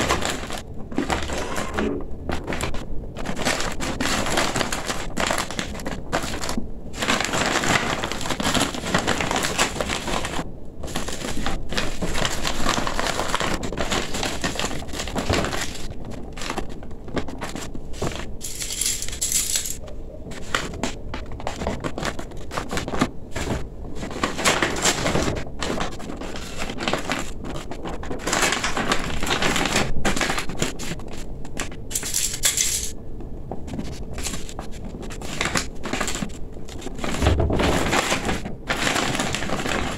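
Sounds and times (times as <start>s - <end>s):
stiff fabric crinkling: 0.0s - 32.6s, 33.5s - 39.9s.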